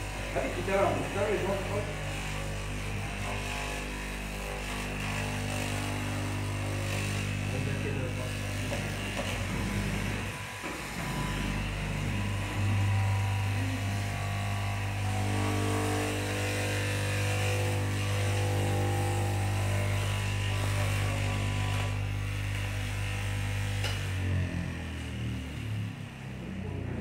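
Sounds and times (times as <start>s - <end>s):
cutting machine motor hum: 0.0s - 27.0s.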